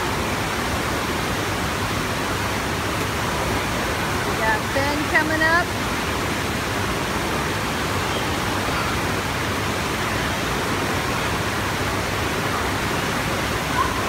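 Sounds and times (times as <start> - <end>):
rush of pumped water: 0.0 - 14.0.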